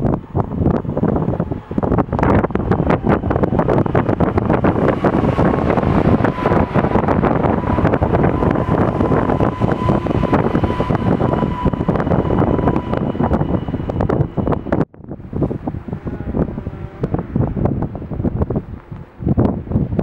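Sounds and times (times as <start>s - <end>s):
electric train passing: 0.0s - 19.8s
steady train whine: 0.0s - 20.0s
wind buffeting microphone: 0.0s - 20.0s.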